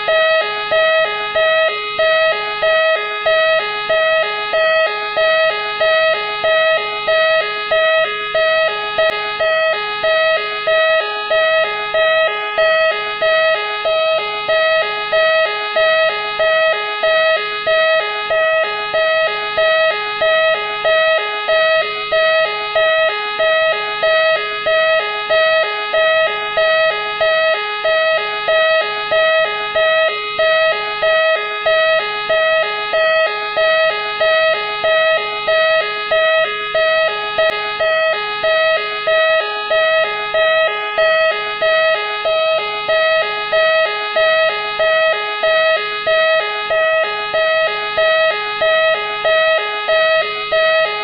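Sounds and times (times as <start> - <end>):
police siren pulsing: 0.0 - 51.0.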